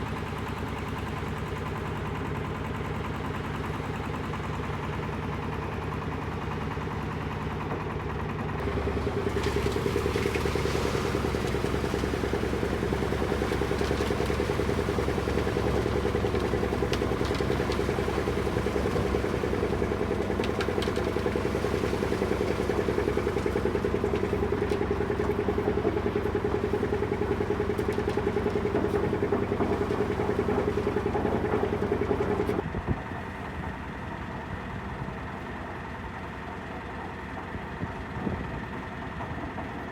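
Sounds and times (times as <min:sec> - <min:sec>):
diesel truck engine running: 0:00.0 - 0:39.8.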